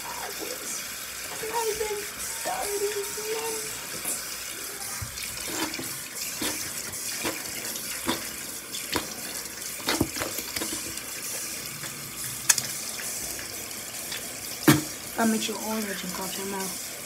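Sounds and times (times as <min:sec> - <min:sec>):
faucet running into basin: 0:00.0 - 0:17.0.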